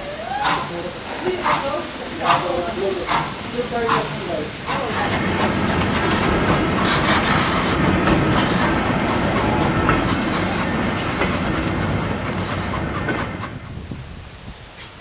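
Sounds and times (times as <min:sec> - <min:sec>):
train wheels clattering over rail joints: 0:00.3 - 0:15.0.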